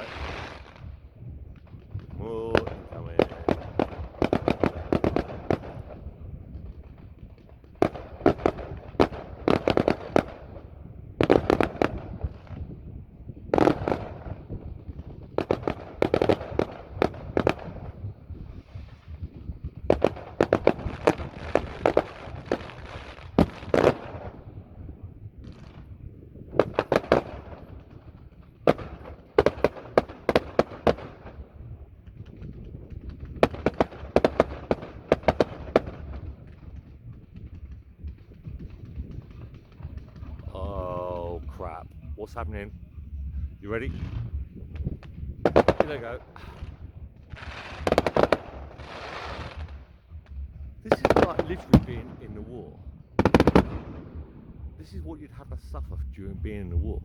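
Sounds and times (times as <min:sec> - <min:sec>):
fireworks popping and banging: 0:00.0 - 0:57.0.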